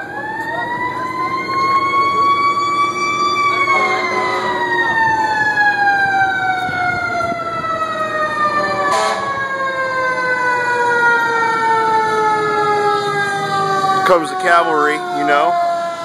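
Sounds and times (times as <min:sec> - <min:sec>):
fire engine siren winding down: 0:00.0 - 0:16.0.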